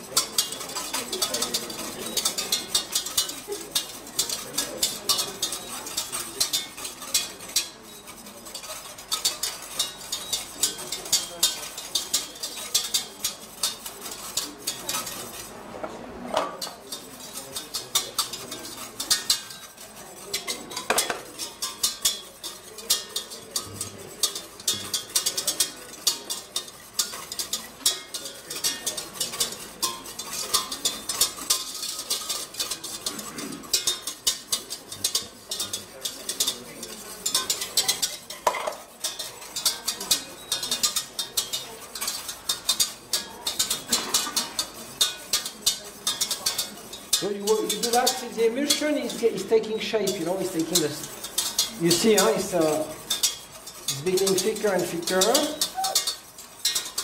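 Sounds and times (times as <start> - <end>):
whisk beating in metal saucepan: 0.0 - 57.0.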